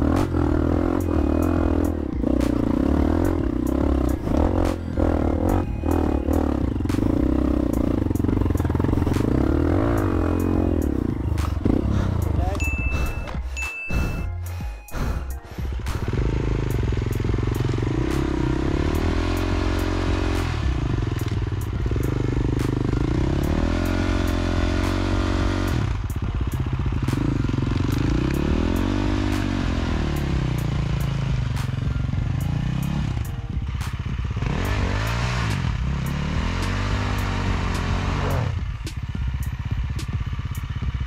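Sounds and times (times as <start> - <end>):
dirt bike engine revving: 0.0 - 13.3, 15.8 - 26.0, 26.7 - 33.2, 34.2 - 38.6.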